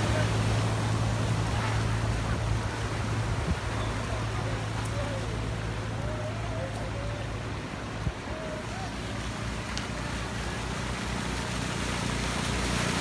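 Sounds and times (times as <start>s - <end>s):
faint distant voices: 0.0s - 13.0s
floodwater rushing: 0.0s - 13.0s
low engine hum: 0.0s - 13.0s.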